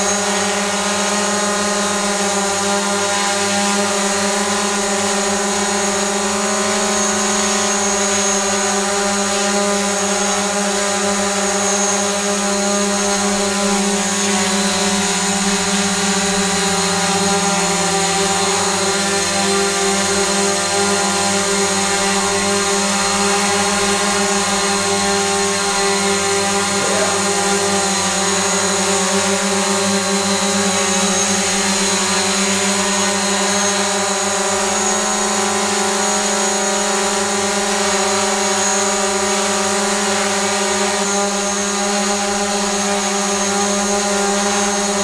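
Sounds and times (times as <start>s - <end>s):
drone propellers buzzing: 0.0s - 45.0s.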